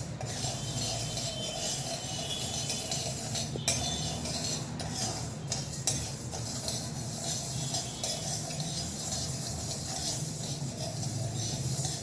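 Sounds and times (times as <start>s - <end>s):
spatula scraping dry lentils in pan: 0.0s - 12.0s.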